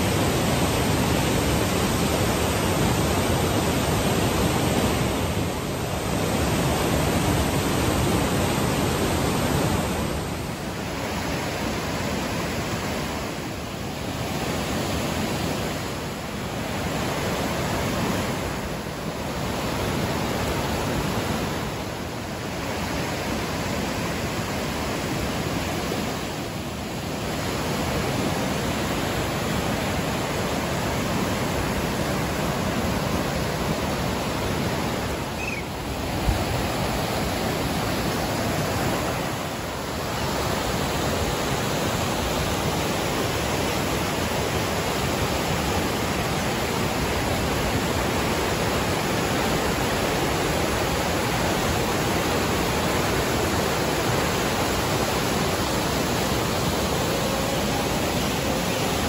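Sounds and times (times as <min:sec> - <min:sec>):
river rushing over boulders: 0:00.0 - 0:59.0.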